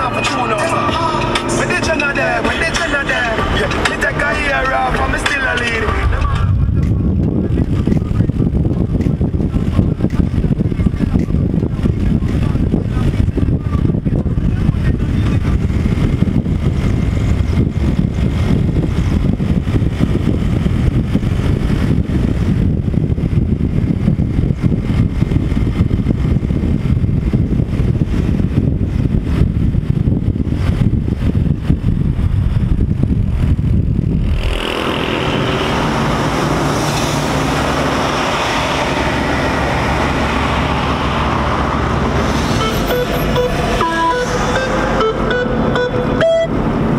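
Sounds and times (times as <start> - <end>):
car road and wind noise: 0.0 - 46.9.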